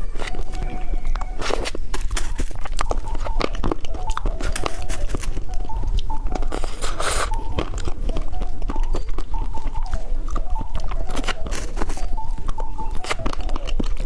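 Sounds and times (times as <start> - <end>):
crackling rustle: 0.0 - 14.0
mouth eating candy: 0.0 - 14.0.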